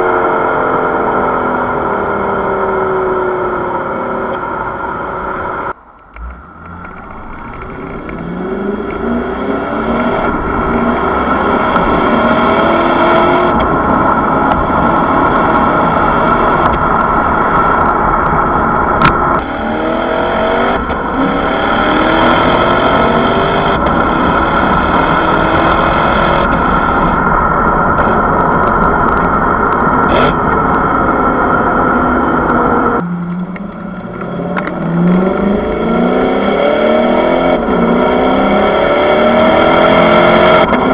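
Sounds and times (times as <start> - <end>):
car engine revving: 0.0 - 40.9
steady rushing noise: 0.0 - 40.9.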